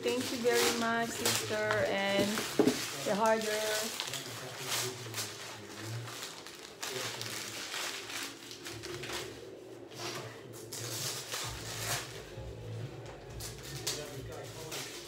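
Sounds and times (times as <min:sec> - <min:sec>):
gift wrap rustling and crinkling: 0:00.0 - 0:15.0.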